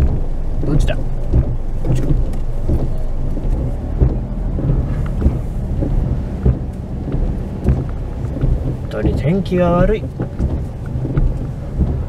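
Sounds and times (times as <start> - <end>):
car interior rumble in rain: 0.0 - 12.0.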